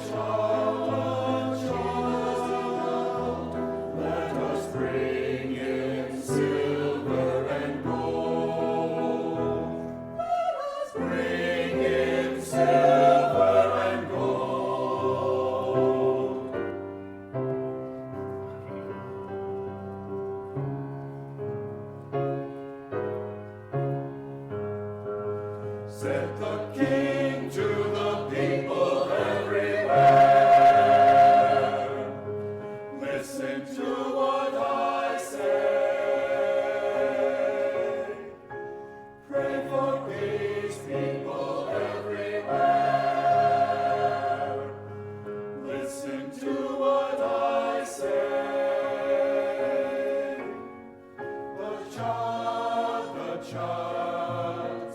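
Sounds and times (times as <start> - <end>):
church choir singing: 0.0 - 54.9
piano accompaniment: 0.0 - 54.9.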